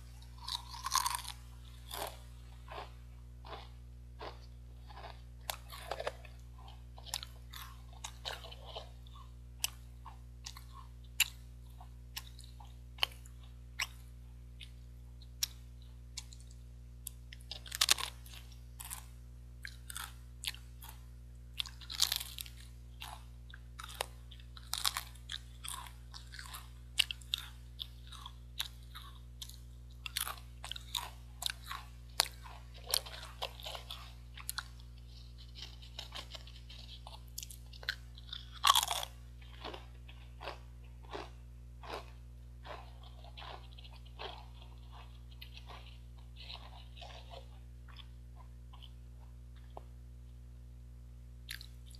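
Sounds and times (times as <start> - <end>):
quiet chewing: 0.0 - 50.4, 51.5 - 51.9
crisps crunching: 0.2 - 11.4, 17.3 - 21.0, 21.6 - 23.2, 23.8 - 49.0.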